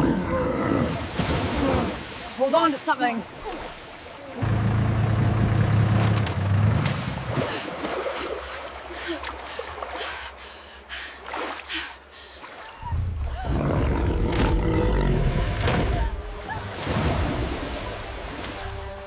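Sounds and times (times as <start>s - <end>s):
water splashing around boat: 0.8s - 13.6s, 14.3s - 19.0s.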